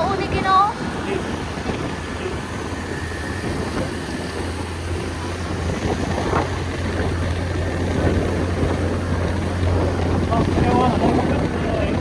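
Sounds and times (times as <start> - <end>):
motorbike engine: 0.0 - 12.0
wind rumbling on microphone: 0.0 - 12.0.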